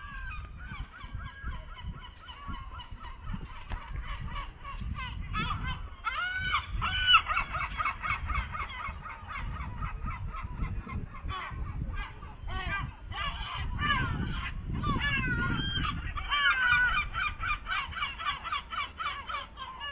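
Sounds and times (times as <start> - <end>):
flock of birds calling: 0.0 - 19.9.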